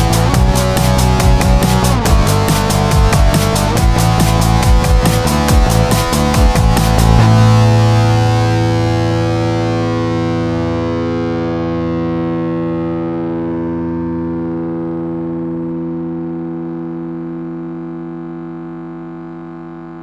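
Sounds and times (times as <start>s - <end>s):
distorted electric guitar chord: 0.0s - 20.0s.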